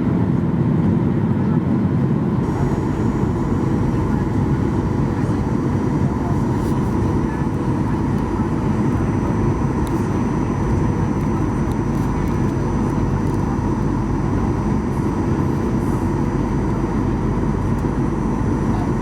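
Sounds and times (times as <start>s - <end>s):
aircraft cabin engine rumble: 0.0s - 19.0s
airflow past fuselage: 2.2s - 18.7s
faint steady tones: 2.4s - 19.0s.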